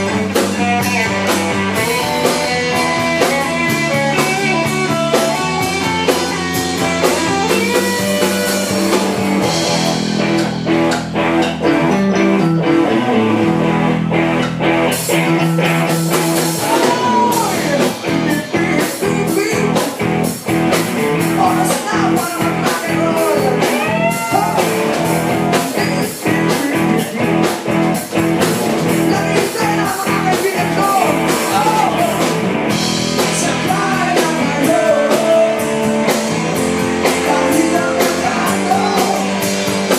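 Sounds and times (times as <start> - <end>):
steady drum beat: 0.0 - 12.6, 13.2 - 39.9
guitar: 0.0 - 39.9
rock band playing: 0.0 - 39.9.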